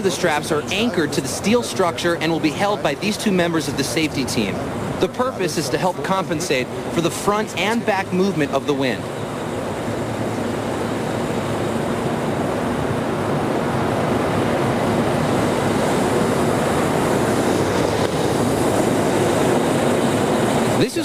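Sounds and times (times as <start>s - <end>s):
industrial air movers roaring: 0.0s - 21.0s.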